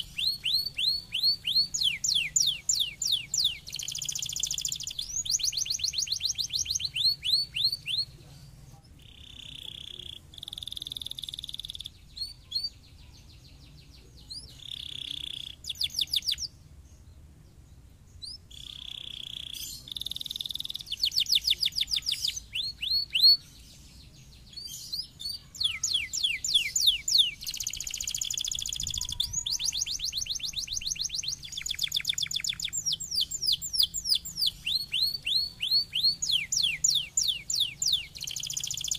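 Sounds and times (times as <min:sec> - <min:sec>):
canary singing: 0:00.0 - 0:16.6, 0:18.2 - 0:38.9.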